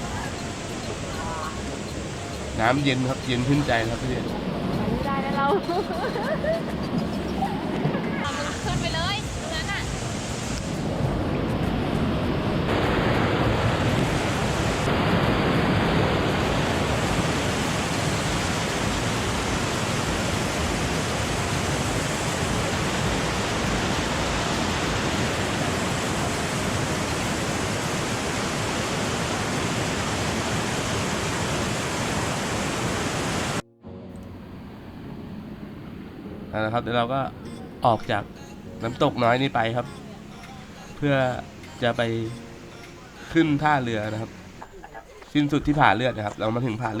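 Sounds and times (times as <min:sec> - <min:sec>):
waterfall rushing: 0:00.0 - 0:33.6, 0:35.9 - 0:47.0.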